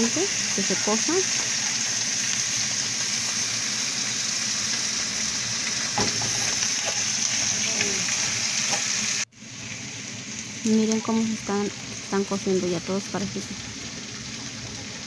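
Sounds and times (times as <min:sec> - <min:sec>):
vegetables sizzling on a griddle: 0:00.0 - 0:15.0.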